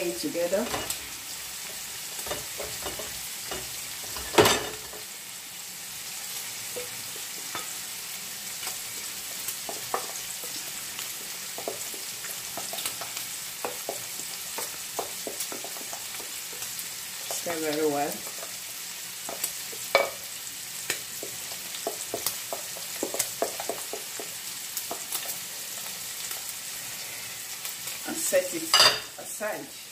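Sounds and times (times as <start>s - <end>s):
meat sizzling in a frying pan: 0.0s - 29.9s.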